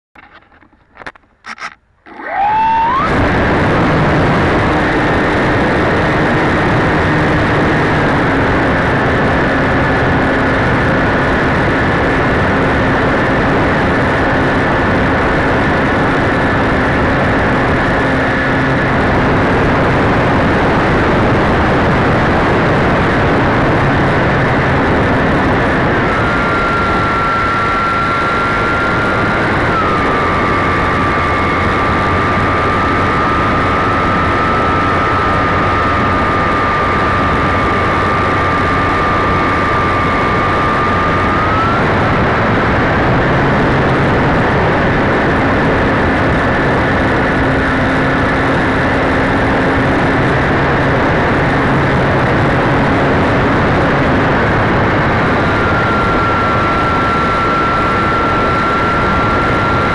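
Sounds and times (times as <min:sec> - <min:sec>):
model airplane motor whine: 0:00.2 - 0:59.9.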